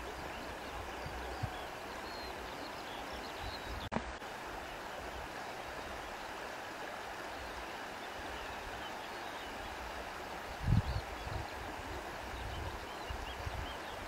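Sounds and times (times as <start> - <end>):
flowing stream water rushing: 0.0 - 14.0.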